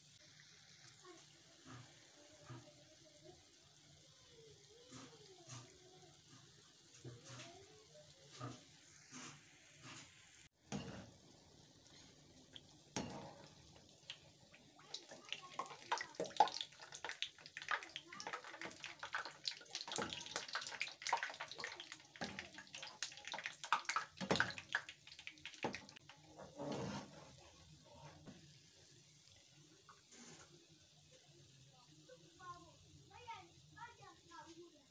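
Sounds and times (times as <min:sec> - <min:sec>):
oil sizzling and crackling: 0:00.0 - 0:34.9.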